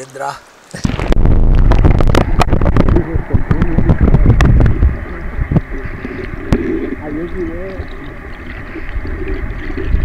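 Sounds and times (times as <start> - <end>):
muffled underwater water rumble: 0.8 - 10.0.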